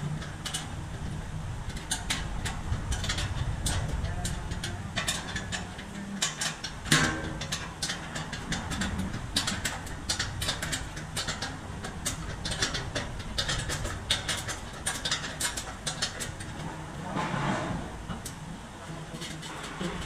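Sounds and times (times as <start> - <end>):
metallic ticks and taps: 0.0 - 16.7
low workshop rumble: 0.0 - 20.0.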